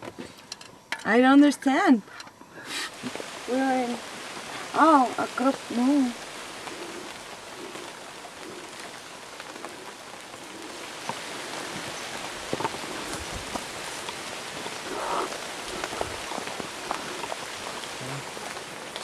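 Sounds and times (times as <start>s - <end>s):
rain falling on foliage: 2.5s - 19.0s.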